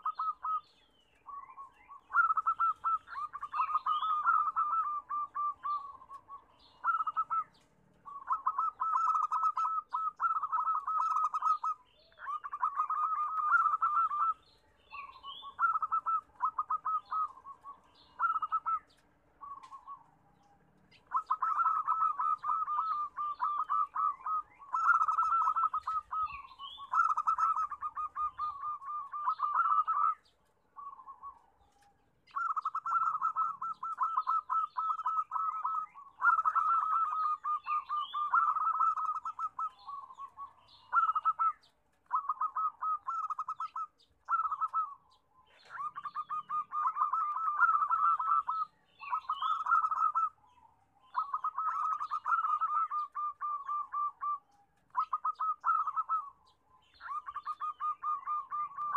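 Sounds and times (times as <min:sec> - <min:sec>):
dove cooing: 0:00.0 - 0:58.9
small birds chirping: 0:00.0 - 0:58.9.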